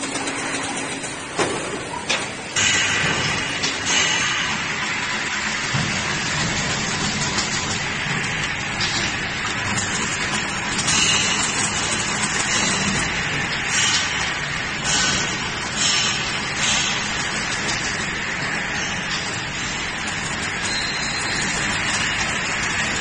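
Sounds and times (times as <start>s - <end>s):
fence weaving machine running: 0.0s - 23.0s.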